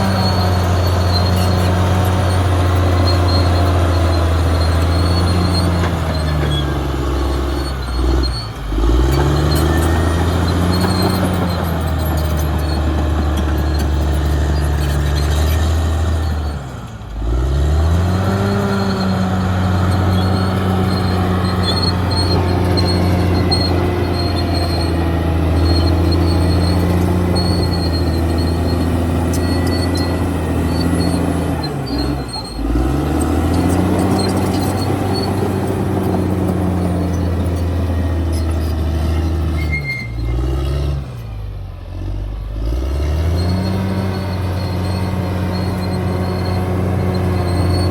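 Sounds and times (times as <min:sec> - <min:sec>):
bulldozer diesel engine running hard: 0:00.0 - 0:47.9.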